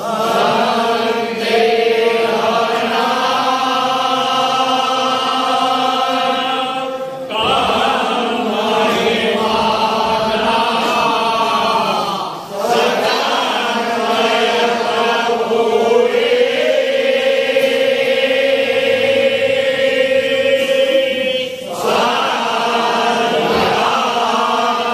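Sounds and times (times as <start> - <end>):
men chanting in unison: 0.0 - 24.9.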